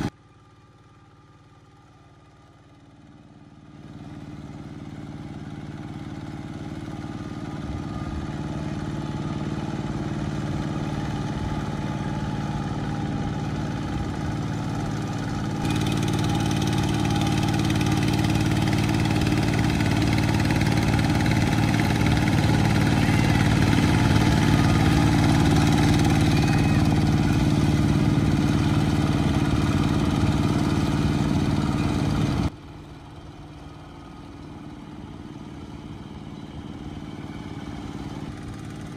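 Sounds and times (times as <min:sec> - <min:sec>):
walking tractor diesel engine: 0:00.0 - 0:38.9.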